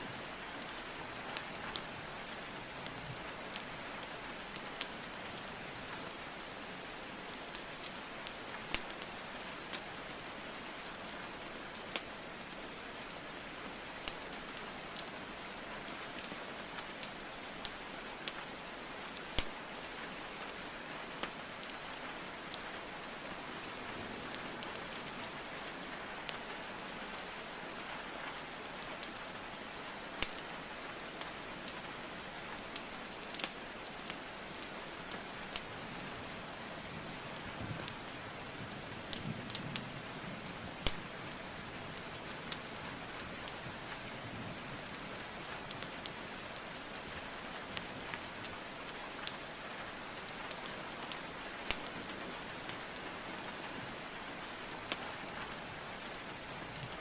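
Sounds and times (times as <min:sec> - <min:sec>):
steady rainfall: 0:00.0 - 0:57.0
burning logs crackling: 0:00.1 - 0:57.0.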